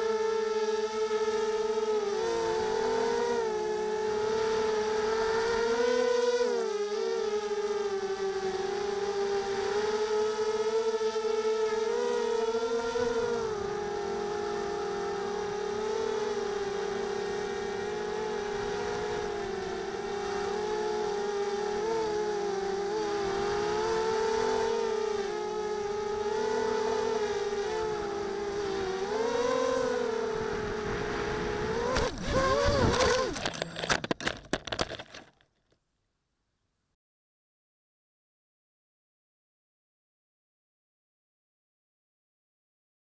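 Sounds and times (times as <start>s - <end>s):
drone motors whining: 0.0s - 35.2s.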